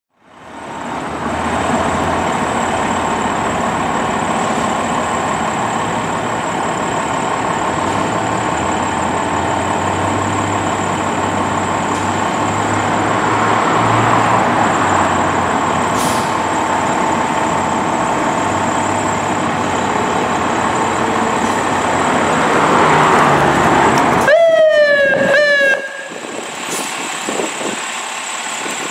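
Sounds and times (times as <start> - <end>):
diesel engine idling: 0.2 - 28.9.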